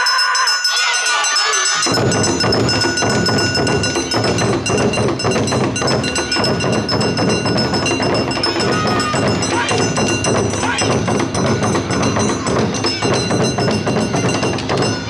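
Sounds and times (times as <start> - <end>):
bright metal percussion: 0.0 - 15.0
held high tones: 0.0 - 15.0
drums: 1.2 - 15.0.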